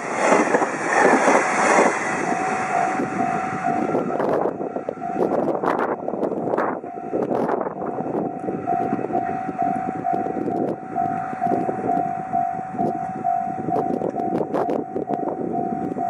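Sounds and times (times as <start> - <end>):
freight train rumble and clatter: 0.0 - 16.0
level crossing warning bell: 2.1 - 16.0.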